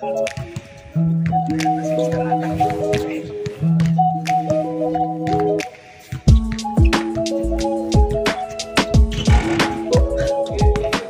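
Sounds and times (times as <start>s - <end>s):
music of held chords: 0.0s - 11.0s.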